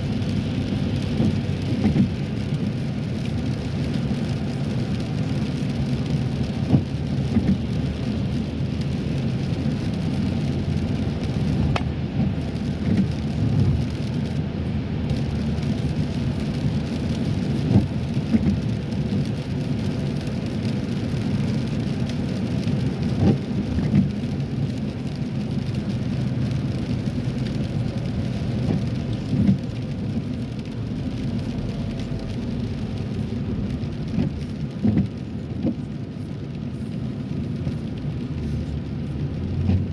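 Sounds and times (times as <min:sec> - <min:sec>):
rain patter on car: 0:00.0 - 0:39.9
road and engine rumble inside car: 0:00.0 - 0:39.9.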